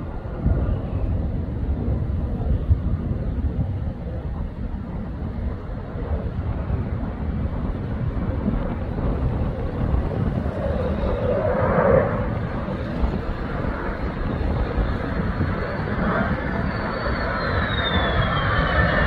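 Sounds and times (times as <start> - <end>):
high turbine whine: 0.0 - 19.0
jet engine rumble: 0.0 - 19.0.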